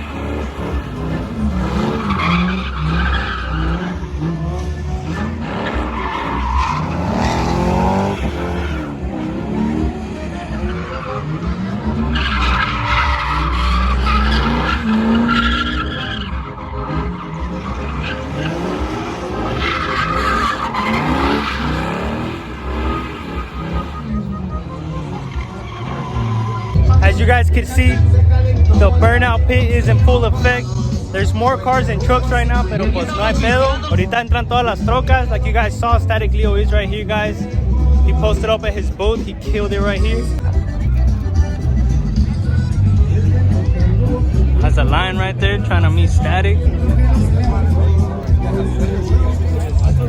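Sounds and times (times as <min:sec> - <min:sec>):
engine revving: 0:00.0 - 0:50.0
tires squealing: 0:00.0 - 0:50.0.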